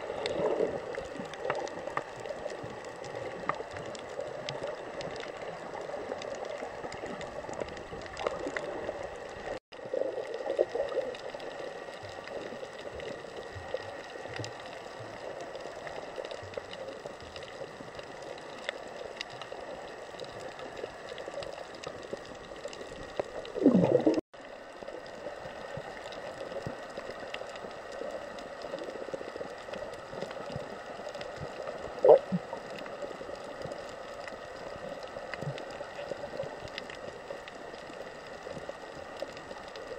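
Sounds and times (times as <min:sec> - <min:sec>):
muffled underwater hiss: 0:00.0 - 0:39.9
water gurgle: 0:00.0 - 0:39.9.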